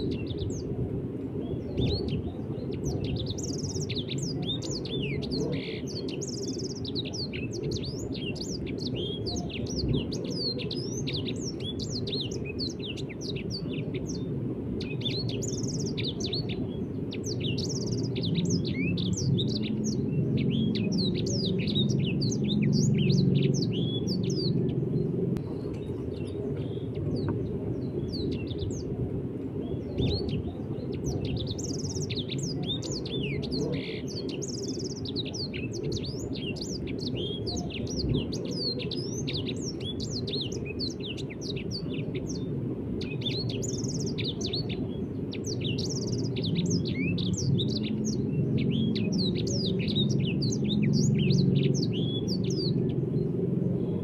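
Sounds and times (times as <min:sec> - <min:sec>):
low background rumble: 0:00.0 - 0:54.0
songbird chirping and trilling: 0:00.0 - 0:54.0.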